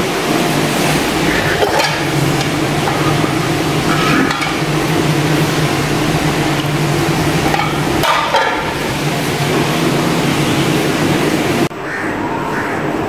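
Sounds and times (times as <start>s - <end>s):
constant hiss: 0.0s - 11.7s
mechanical hum: 0.0s - 13.0s.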